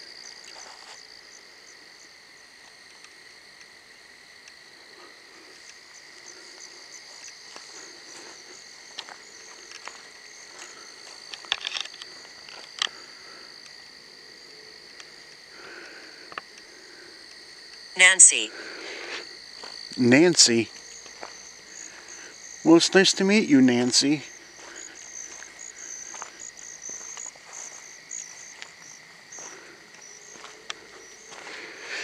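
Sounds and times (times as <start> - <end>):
frogs and insects trilling: 0.0 - 32.0.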